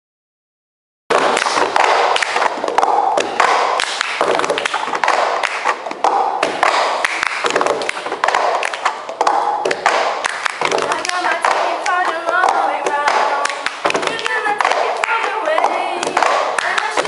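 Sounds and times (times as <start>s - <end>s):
hand claps: 1.2s - 17.0s.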